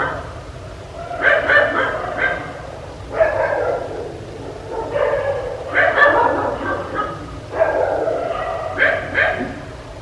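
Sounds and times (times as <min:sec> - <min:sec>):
dog barking: 0:00.0 - 0:00.4, 0:01.0 - 0:09.7.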